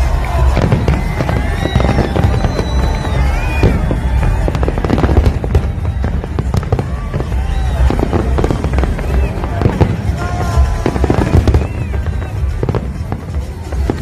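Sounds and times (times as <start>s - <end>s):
firework shells bursting and crackling: 0.0s - 14.0s.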